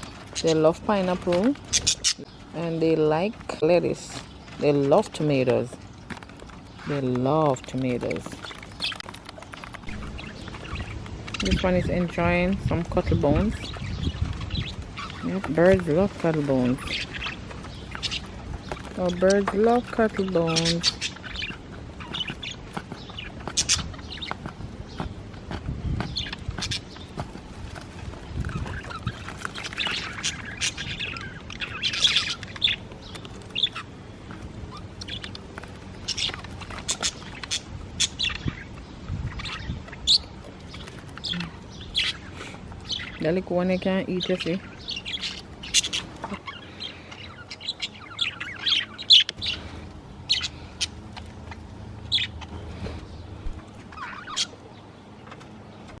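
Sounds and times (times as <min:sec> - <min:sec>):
budgerigars chirping and squawking: 0:00.0 - 0:56.0.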